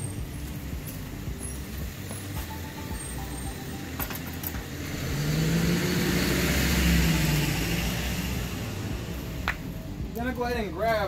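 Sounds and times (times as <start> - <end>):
car driving past: 0.0 - 10.0.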